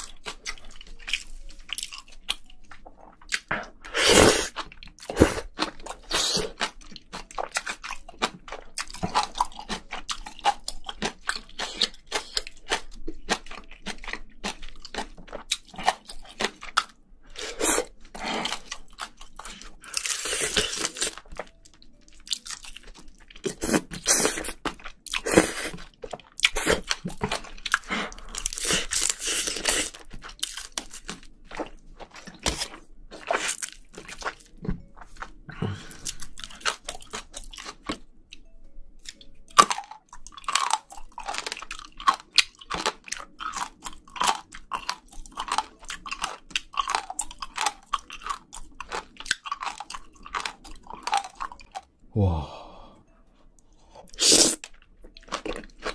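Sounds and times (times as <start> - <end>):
rhythmic chewing: 0.0 - 52.0, 52.6 - 55.9.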